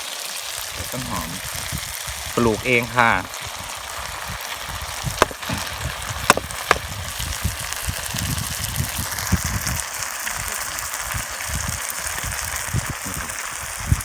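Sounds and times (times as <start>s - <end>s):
stir-fry sizzling in a pan: 0.0s - 14.0s.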